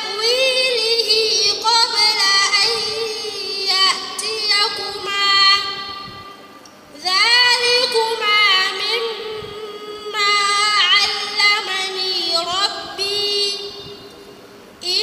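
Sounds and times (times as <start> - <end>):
girl reciting melodically into microphone: 0.0 - 15.0.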